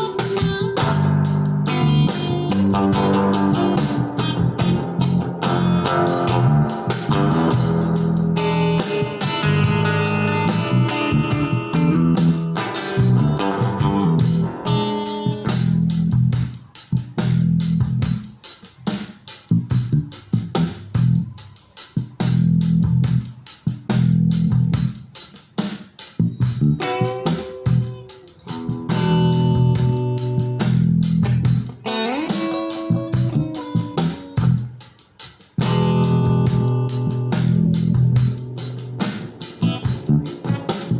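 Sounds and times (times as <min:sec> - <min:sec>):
song with guitar bass and drums: 0:00.0 - 0:40.9.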